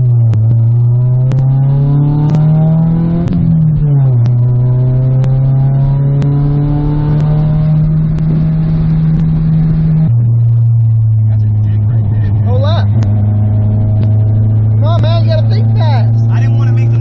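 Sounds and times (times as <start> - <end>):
car engine revving through gears: 0.0 - 17.0.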